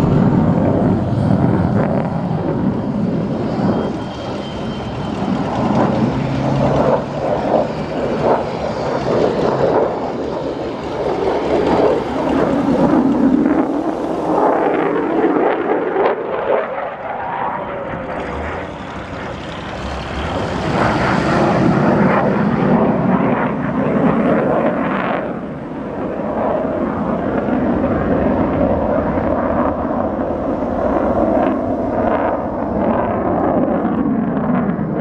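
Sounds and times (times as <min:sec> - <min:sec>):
jet engine roar overhead: 0:00.0 - 0:35.0.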